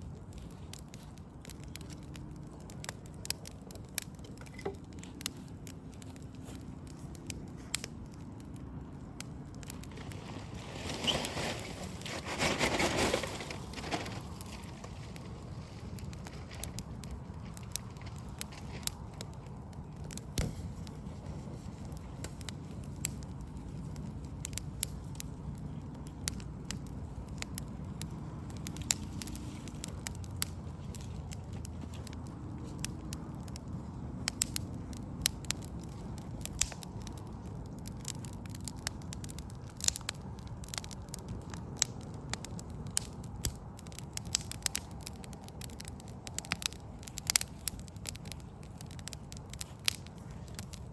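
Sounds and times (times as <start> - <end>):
sharp pops of fire: 0.0 - 50.9
wood fire crackling: 0.0 - 50.9.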